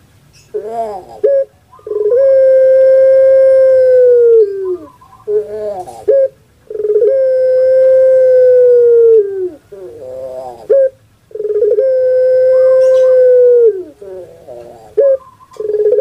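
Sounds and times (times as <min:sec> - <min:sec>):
dove cooing: 0:00.4 - 0:16.0.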